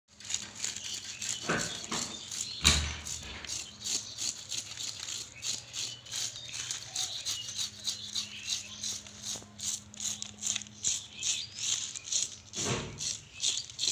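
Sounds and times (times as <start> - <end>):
knife scraping fish scales: 0.1 - 13.9.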